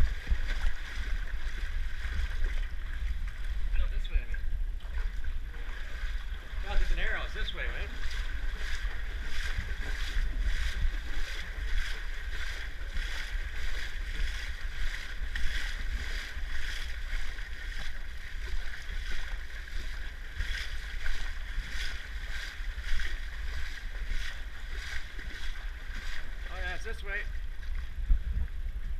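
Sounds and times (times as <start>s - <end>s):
splashing footsteps in water: 0.0s - 28.9s
steady low rumble: 0.0s - 28.9s.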